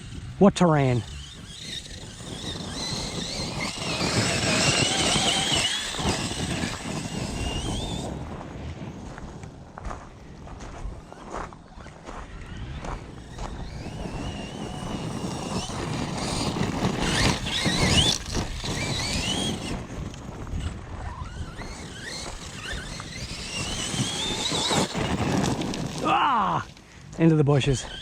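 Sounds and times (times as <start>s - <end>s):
electric motor whining: 0.0s - 9.5s, 11.0s - 26.8s, 27.6s - 28.0s
tyres crunching on rough ground: 1.1s - 28.0s.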